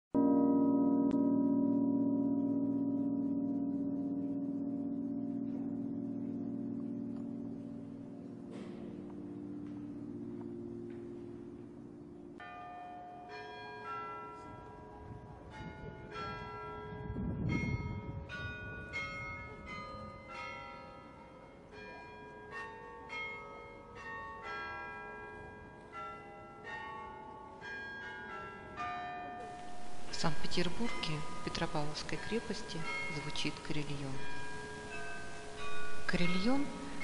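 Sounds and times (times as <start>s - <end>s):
carillon bells playing a tune: 0.2s - 37.0s.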